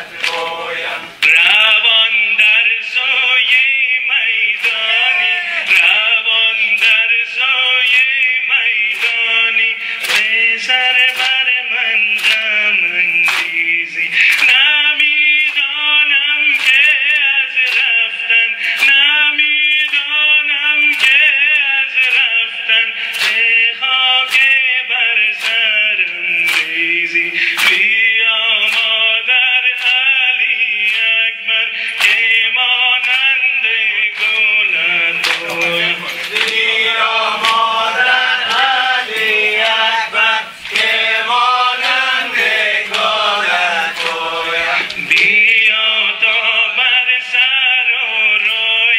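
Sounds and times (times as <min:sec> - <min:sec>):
man singing a lament: 0:00.0 - 0:48.9.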